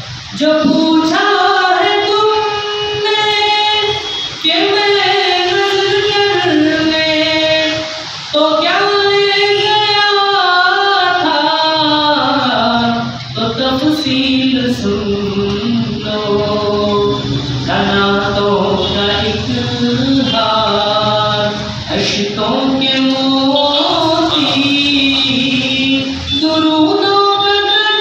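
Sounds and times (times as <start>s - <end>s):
man singing unaccompanied: 0.4s - 28.0s.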